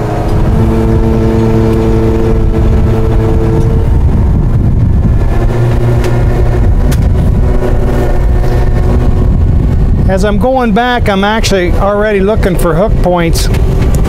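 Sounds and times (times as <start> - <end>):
hydraulics whine: 0.0 - 14.0
truck engine rumble: 0.0 - 14.0.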